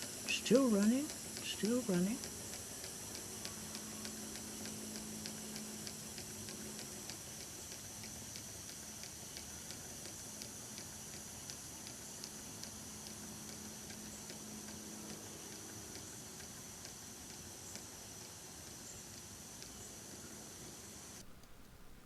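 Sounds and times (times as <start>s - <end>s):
model steam engine ticking: 0.0s - 19.8s.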